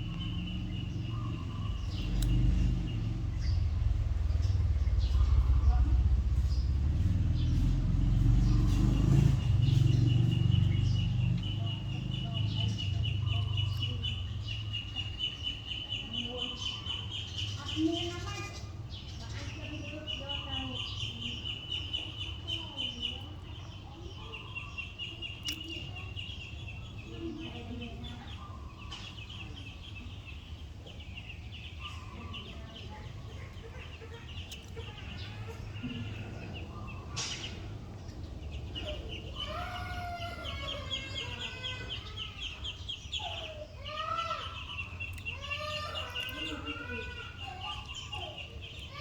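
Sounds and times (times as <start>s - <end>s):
birds calling: 0.0s - 49.0s.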